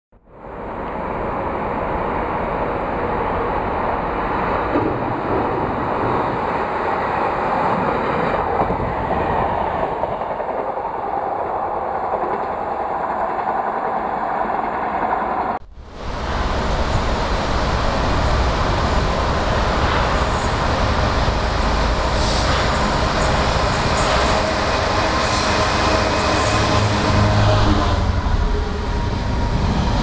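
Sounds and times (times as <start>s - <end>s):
diesel train passing: 0.3s - 30.0s.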